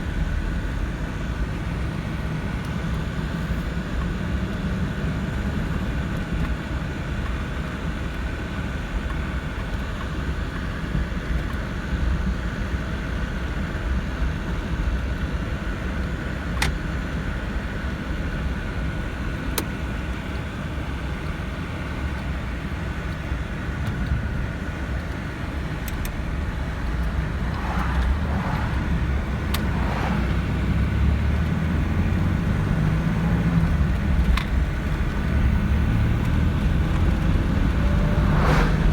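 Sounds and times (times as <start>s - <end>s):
car engine droning: 0.0s - 20.2s, 21.1s - 38.9s
faint engine whine: 0.0s - 38.9s.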